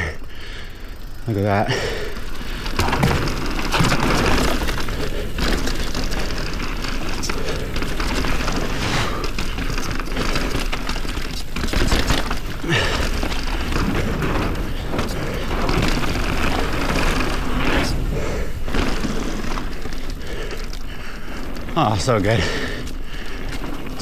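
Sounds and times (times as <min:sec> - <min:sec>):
tyres rolling over dirt and rocks: 0:00.0 - 0:24.0
bike knocking and clattering: 0:00.4 - 0:24.0.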